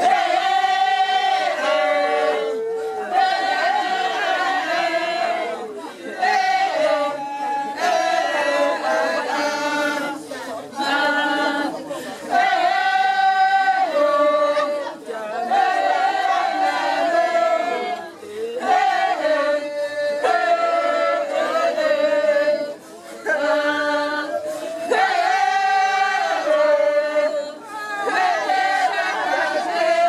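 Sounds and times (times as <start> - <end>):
women singing unaccompanied: 0.0 - 30.0.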